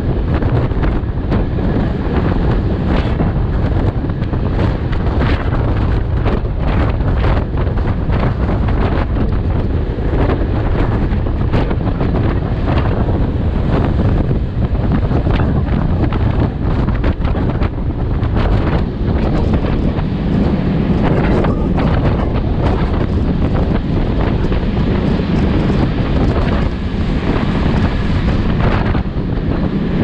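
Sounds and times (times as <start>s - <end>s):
train knocks and rattles: 0.0s - 30.0s
wind blasting microphone: 0.0s - 30.0s.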